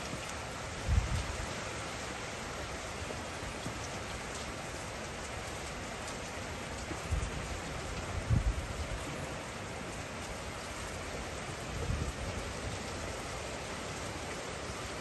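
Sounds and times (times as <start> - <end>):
rain-like hiss: 0.0 - 15.0.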